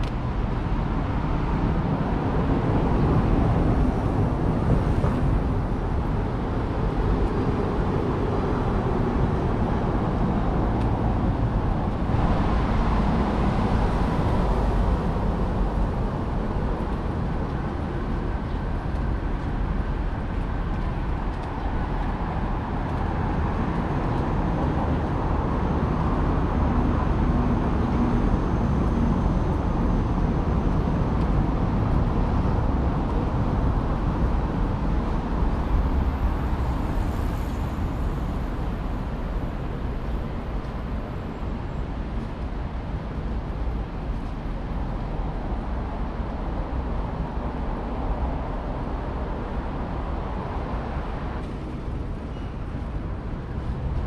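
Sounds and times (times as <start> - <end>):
outdoor street noise rumble: 0.0 - 54.0.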